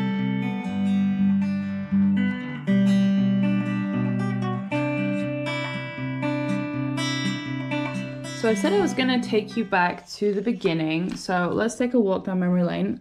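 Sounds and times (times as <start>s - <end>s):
acoustic guitar chords: 0.0s - 10.9s.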